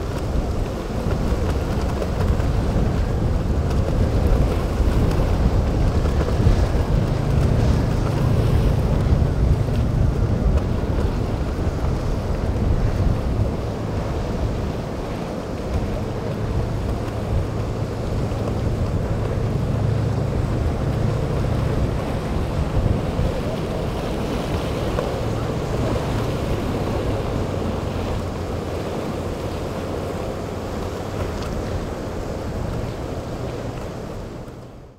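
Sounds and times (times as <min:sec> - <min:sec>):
boat engines droning: 0:00.0 - 0:34.9
waves breaking: 0:00.0 - 0:34.9
wind buffeting microphone: 0:00.0 - 0:34.9.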